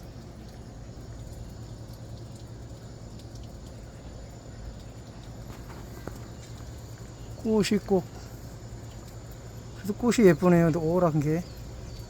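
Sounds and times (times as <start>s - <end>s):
faint ticks: 0.0s - 12.0s.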